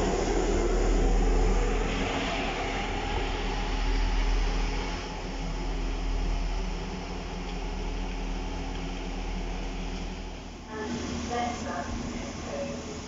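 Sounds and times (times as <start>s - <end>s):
diesel train engines droning: 0.0s - 13.0s
train rolling noise: 0.0s - 13.0s.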